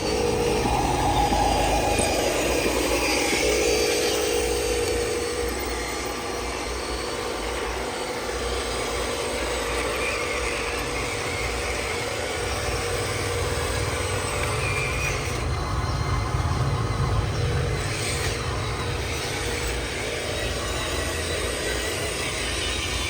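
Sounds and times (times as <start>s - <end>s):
model trucks whirring: 0.0s - 23.0s.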